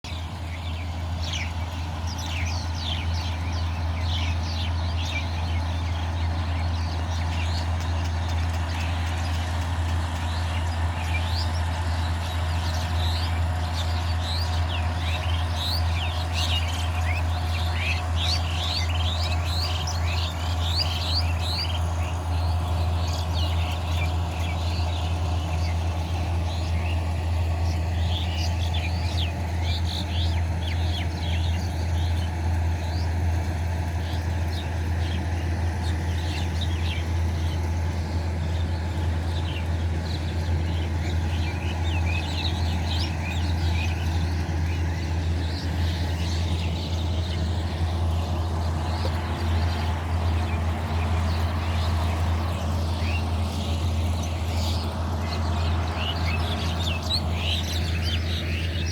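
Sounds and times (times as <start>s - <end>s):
birds chirping: 0.0s - 58.9s
combine harvester engine drone: 0.0s - 58.9s.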